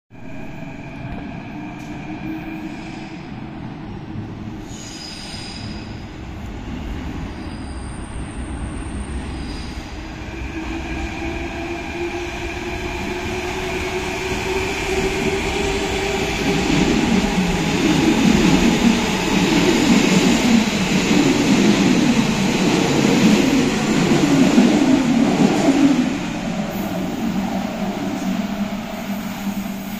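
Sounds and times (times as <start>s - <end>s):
train rumbling and clattering past: 0.2s - 29.9s.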